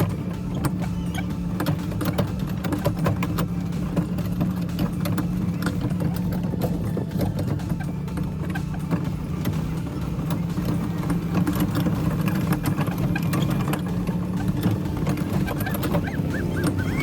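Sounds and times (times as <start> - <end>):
engine humming: 0.0 - 17.0
sharp rattling clicks: 0.0 - 17.0.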